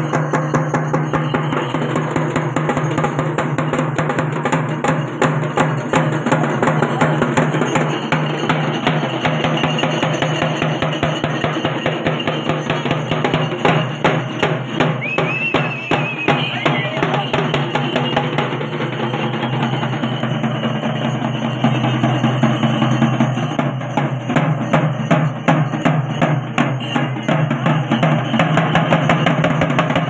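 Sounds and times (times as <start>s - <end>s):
fast dense drumming: 0.0s - 30.0s.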